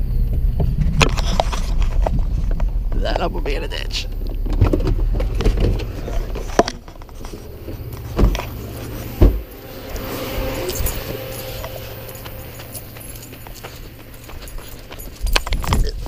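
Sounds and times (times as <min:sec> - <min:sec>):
pickup truck engine rumbling: 0:00.0 - 0:16.0.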